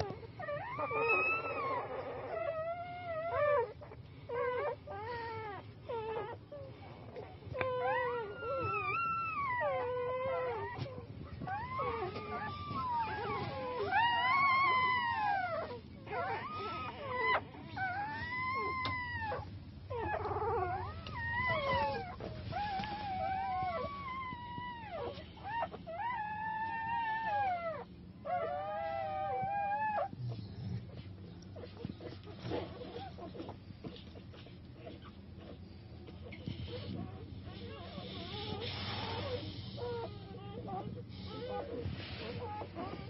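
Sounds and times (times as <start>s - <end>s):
puppies whining and squealing: 0.0s - 43.0s.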